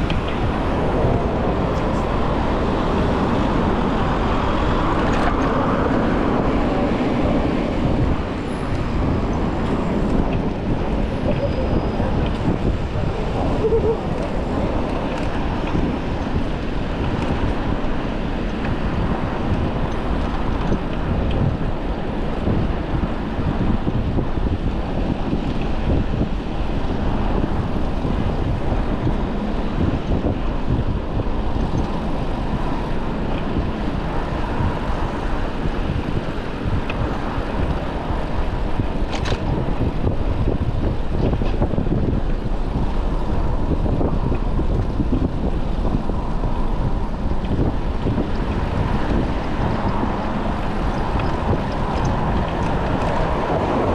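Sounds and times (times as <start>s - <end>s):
road traffic: 0.0s - 53.9s
wind rumble on microphone: 0.0s - 53.9s.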